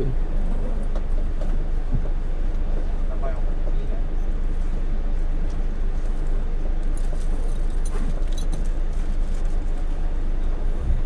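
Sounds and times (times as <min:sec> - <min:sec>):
coach engine rumbling: 0:00.0 - 0:11.0.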